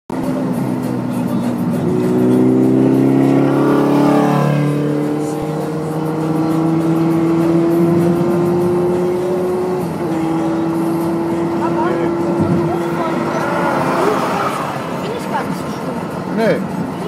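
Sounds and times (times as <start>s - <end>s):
car engine accelerating: 0.1s - 17.0s.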